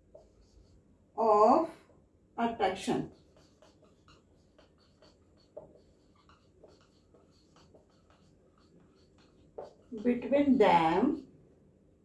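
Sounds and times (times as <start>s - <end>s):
marker scratching on whiteboard: 0.0s - 0.9s, 2.4s - 11.3s.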